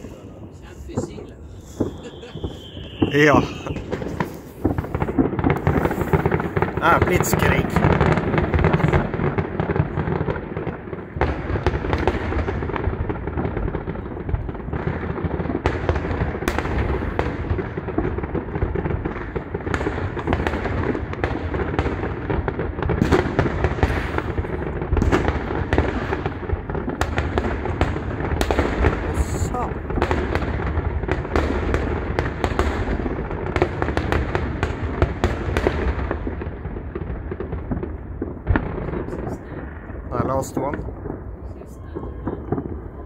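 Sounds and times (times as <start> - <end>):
fireworks bursting and crackling: 0.0 - 43.0
loud firework bangs: 0.0 - 43.0.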